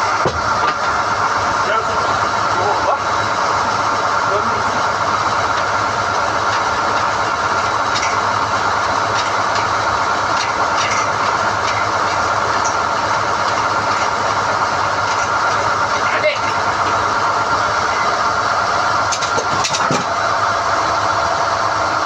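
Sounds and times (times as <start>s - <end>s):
drilling rig running: 0.0s - 22.0s.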